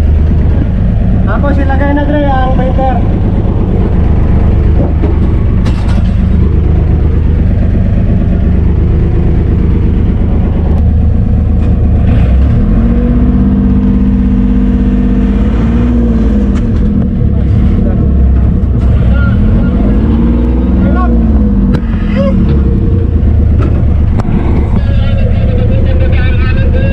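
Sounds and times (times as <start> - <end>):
diesel engine running inside cabin: 0.0 - 26.9.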